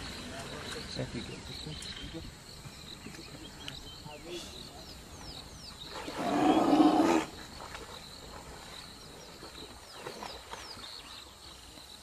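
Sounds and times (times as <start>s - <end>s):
low outdoor background: 0.0s - 12.0s.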